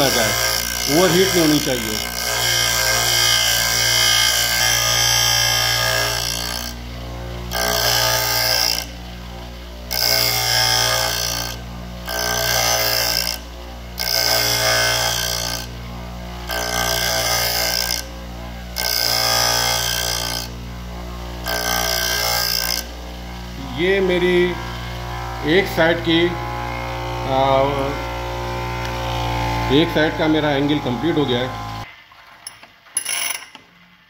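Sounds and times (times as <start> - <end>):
bench grinder motor hum: 0.0 - 31.9
drill bit grinding on wheel: 0.0 - 31.9.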